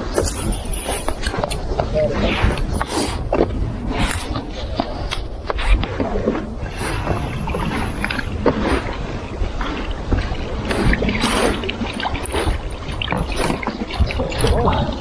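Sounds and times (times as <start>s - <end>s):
lure splashing and gurgling on water: 0.0s - 2.0s, 2.7s - 14.6s
wind rumbling on microphone: 0.0s - 15.0s.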